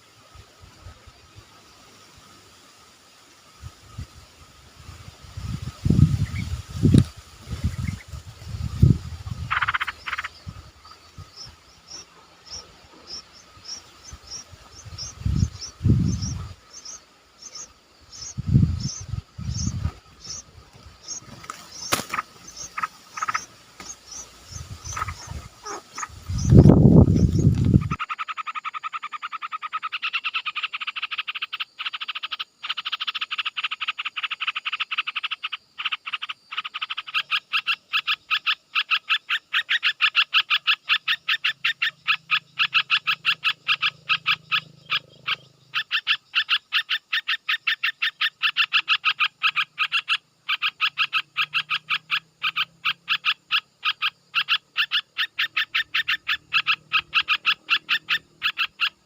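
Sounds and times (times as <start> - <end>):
frog-like animal call pulses: 7.6 - 59.0.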